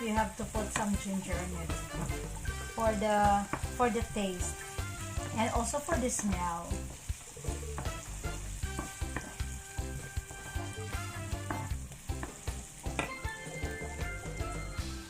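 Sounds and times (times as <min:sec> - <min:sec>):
onions sizzling in a pan: 0:00.0 - 0:15.0.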